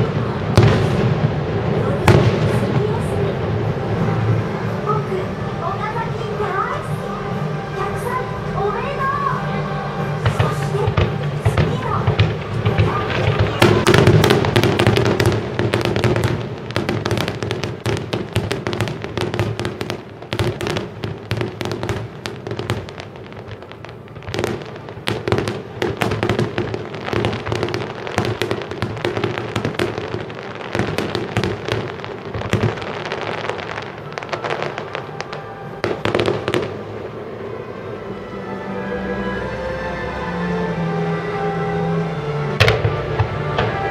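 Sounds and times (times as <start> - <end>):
fireworks bangs and crackles: 0.0 - 37.5, 42.6 - 43.9.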